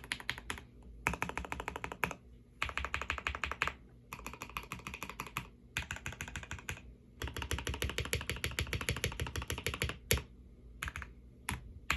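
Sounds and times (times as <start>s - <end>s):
mechanical keyboard typing: 0.0s - 11.9s.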